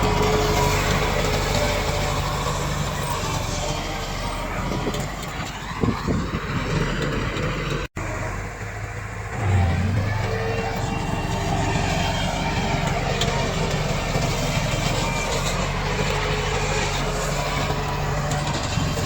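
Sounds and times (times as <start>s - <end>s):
bulldozer diesel engine: 0.0s - 19.0s.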